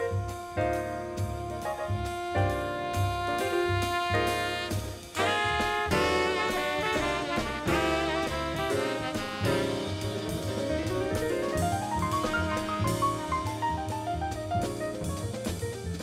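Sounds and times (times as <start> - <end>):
jazz with horns and saxophone: 0.0 - 16.0.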